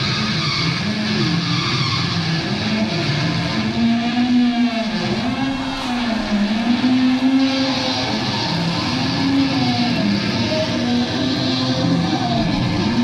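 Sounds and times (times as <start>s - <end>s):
distorted electric guitar feedback: 0.0s - 13.0s.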